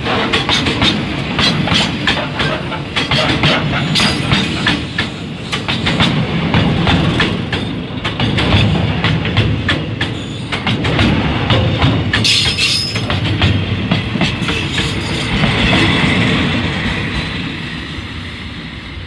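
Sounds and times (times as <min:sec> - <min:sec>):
train wheels clacking over rail joints: 0:00.0 - 0:17.5
train rumble: 0:00.0 - 0:19.0.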